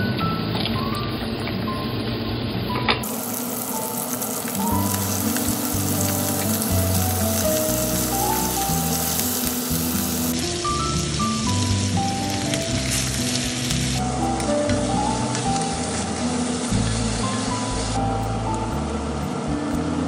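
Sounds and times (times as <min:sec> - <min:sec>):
chicken sizzling in oil: 0:00.0 - 0:18.0
slow background music: 0:00.0 - 0:20.0.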